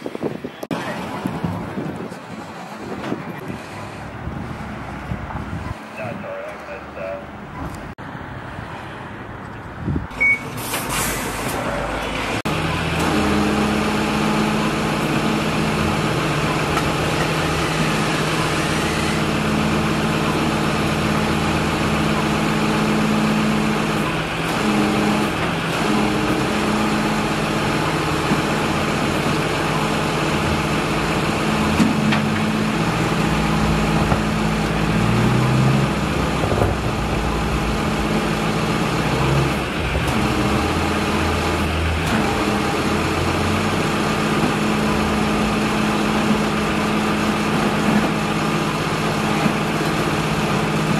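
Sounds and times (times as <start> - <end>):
tow truck engine running: 0.0 - 8.2, 8.8 - 50.9.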